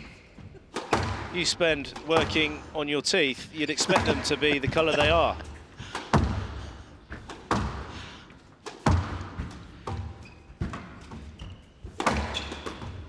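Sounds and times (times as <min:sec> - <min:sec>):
squash ball knocks with echo: 0:00.7 - 0:02.8, 0:03.8 - 0:13.0.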